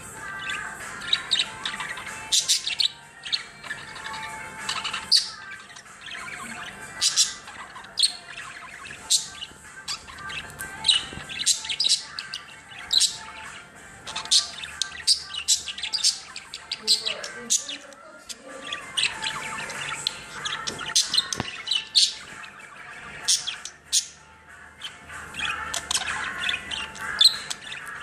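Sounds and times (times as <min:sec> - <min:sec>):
budgerigar chirping: 0:00.0 - 0:28.0
soft warbling chatter: 0:00.0 - 0:28.0.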